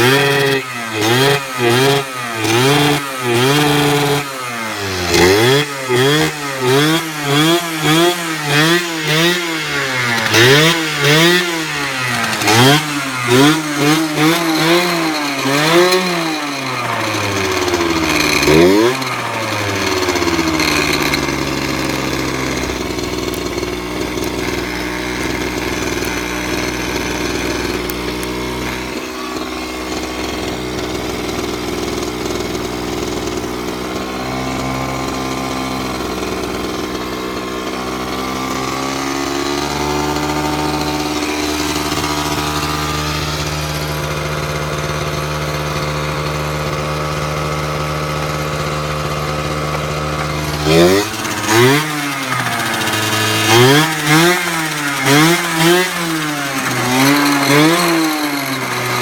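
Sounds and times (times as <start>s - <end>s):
small two-stroke engine idling: 0.0s - 59.0s.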